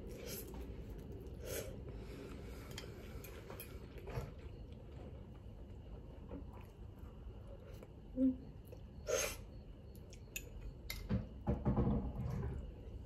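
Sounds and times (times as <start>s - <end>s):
quiet chewing: 0.0s - 10.8s.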